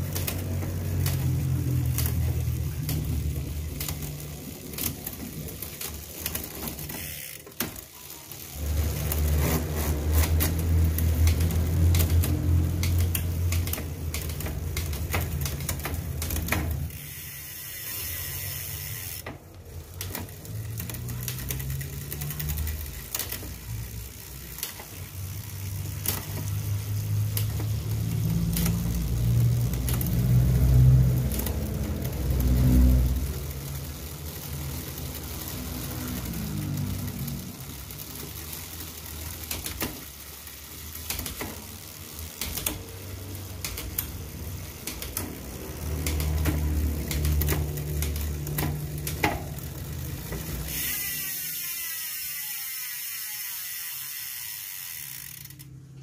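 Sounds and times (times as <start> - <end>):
bicycle chain whirring and clicking: 0.0 - 56.0.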